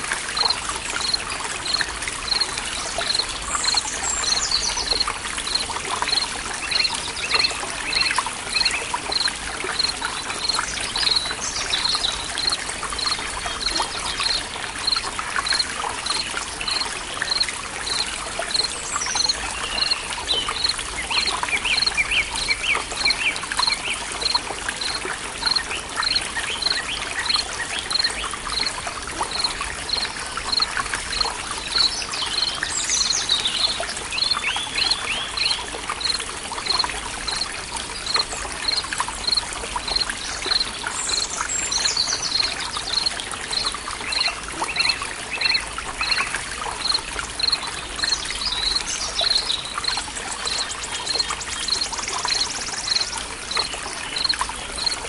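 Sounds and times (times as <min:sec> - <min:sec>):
trickling stream: 0:00.0 - 0:55.0.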